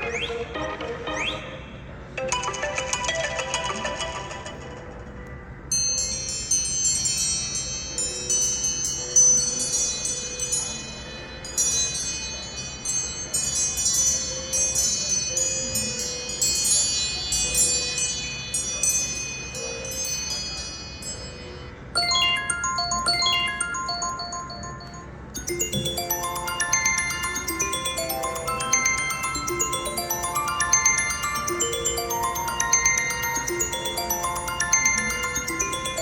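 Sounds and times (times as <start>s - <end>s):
low repeated ringtone notes: 5.8s - 36.0s
bell-like ringtone chimes: 5.9s - 36.0s.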